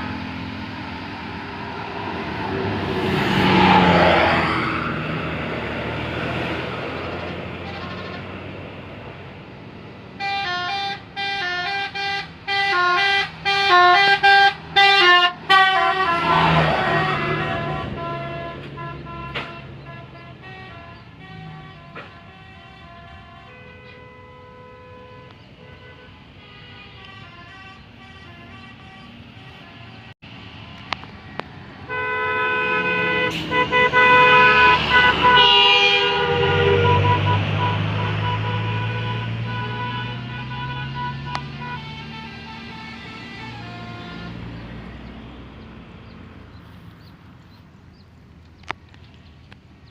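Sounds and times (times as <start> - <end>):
multi-tone bus horn melody: 0.0 - 47.2
diesel engine rumble: 0.0 - 49.9.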